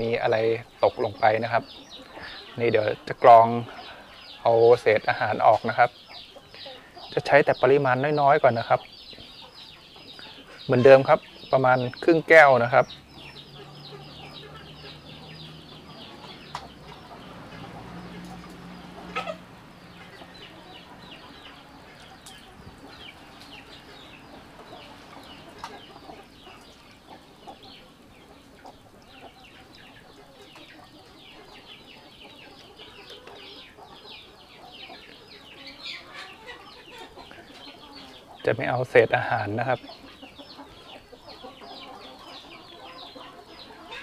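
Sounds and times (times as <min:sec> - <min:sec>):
chickens clucking and chirping: 0:00.0 - 0:44.0.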